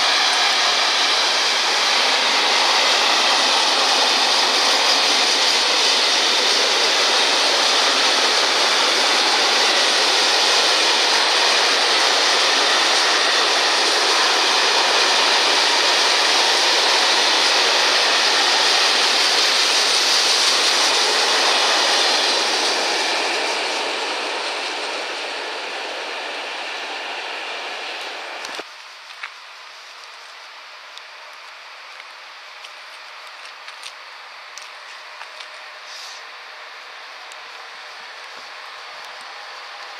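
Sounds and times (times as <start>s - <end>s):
freight train wheels rolling on rails: 0.0s - 39.9s.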